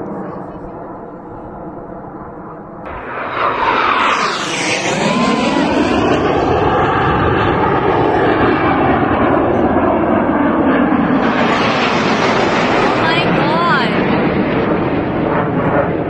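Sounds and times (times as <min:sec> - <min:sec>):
jet planes roaring overhead: 0:00.0 - 0:16.0.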